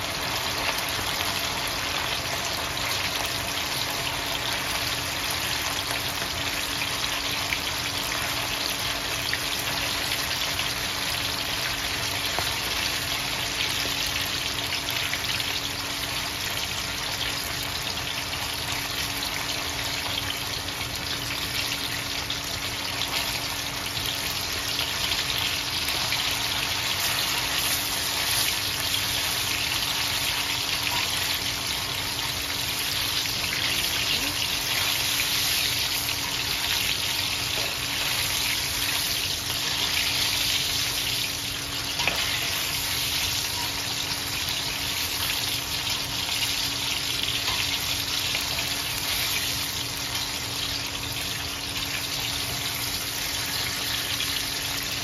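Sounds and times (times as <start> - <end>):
chicken wings deep-frying in oil: 0.0 - 55.0.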